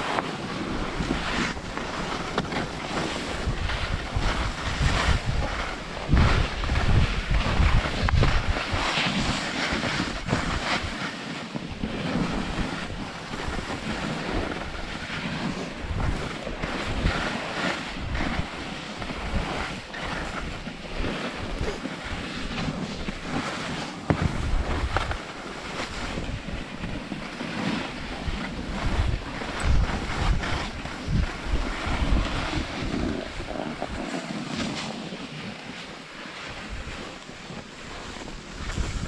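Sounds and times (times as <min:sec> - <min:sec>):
wind buffeting microphone: 0:00.0 - 0:11.0, 0:11.6 - 0:23.4, 0:24.0 - 0:39.0
skis carving snow: 0:00.0 - 0:39.0.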